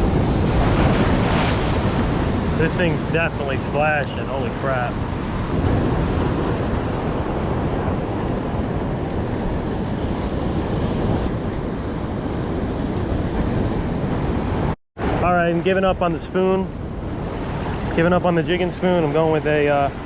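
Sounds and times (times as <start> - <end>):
surf washing against rocks: 0.0 - 11.3, 13.3 - 20.0
wind buffeting microphone: 0.0 - 20.0.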